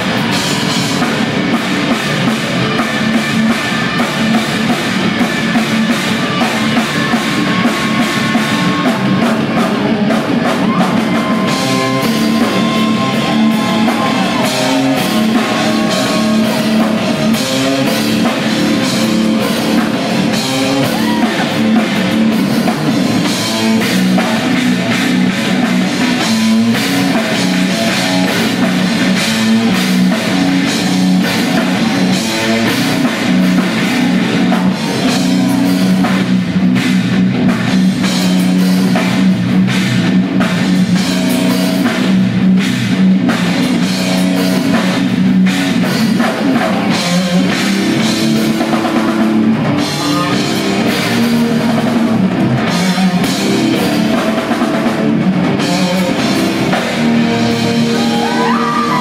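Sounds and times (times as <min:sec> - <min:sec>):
rock band playing loudly: 0:00.0 - 0:59.0.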